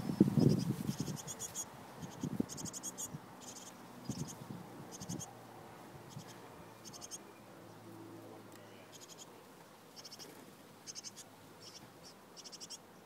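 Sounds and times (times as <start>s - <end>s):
small birds twittering: 0.0s - 5.4s, 6.0s - 7.9s, 8.5s - 13.0s.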